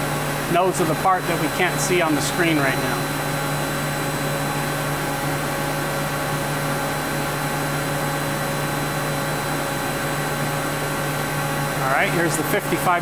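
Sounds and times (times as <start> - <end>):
lathe humming and whirring at idle: 0.0 - 13.0.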